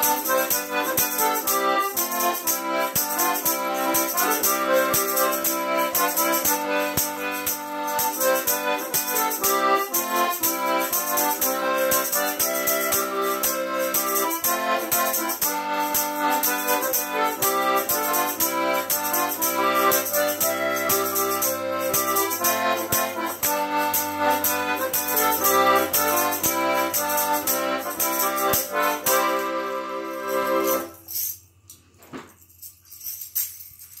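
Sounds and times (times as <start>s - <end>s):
button accordion playing: 0.0s - 31.0s
tambourine struck on beat: 0.0s - 31.4s.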